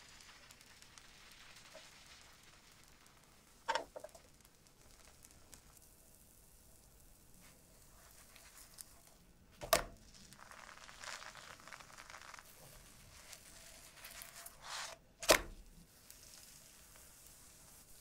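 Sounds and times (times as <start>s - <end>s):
pancake sizzling: 0.0s - 18.0s.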